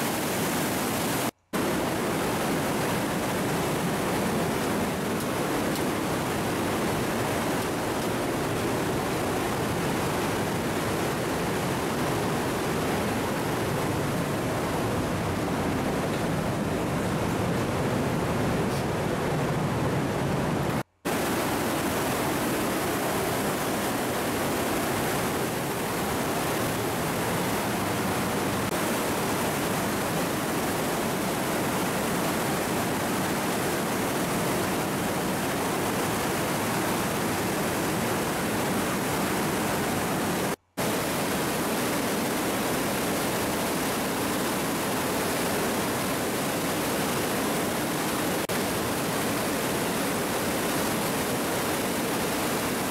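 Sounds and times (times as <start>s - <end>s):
water rushing through rocky gorge: 0.0s - 52.9s.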